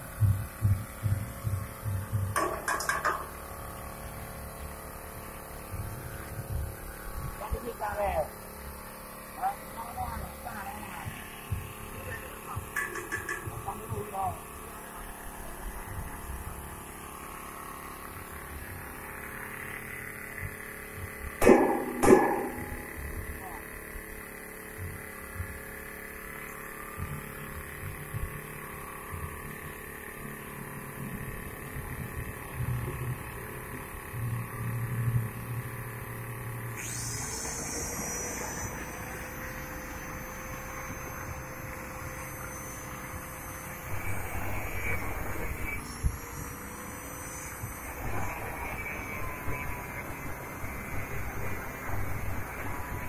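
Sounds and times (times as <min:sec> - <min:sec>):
angle grinder cutting steel pipe: 0:02.1 - 0:31.0, 0:35.5 - 0:53.0.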